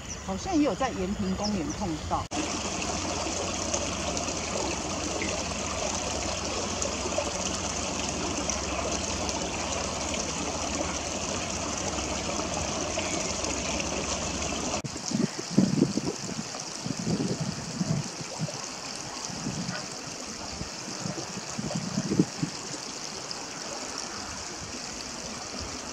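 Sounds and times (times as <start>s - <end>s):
stream rushing: 2.0s - 25.9s.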